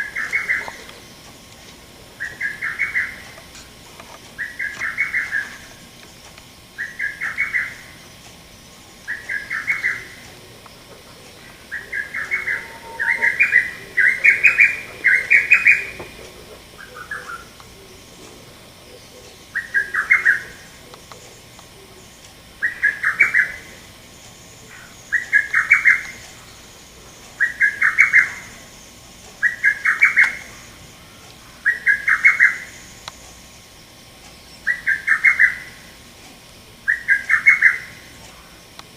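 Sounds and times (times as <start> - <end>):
cuckoo singing staccato song: 0.0 - 38.9.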